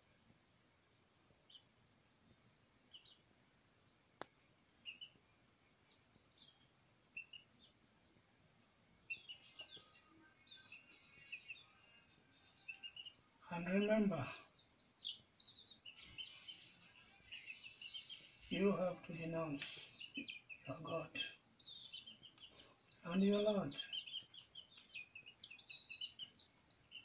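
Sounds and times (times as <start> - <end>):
faint bird chirps: 0.8 - 8.4, 9.0 - 27.0.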